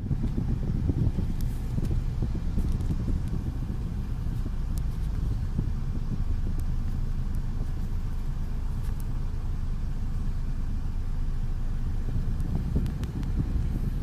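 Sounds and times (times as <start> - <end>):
vehicle rumbling along road: 0.0 - 14.0.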